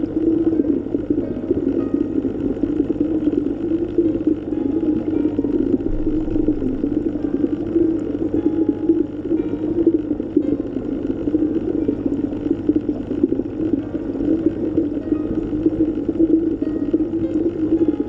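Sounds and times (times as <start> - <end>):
churning water underwater: 0.0 - 18.0
faint steady hum: 0.0 - 18.0.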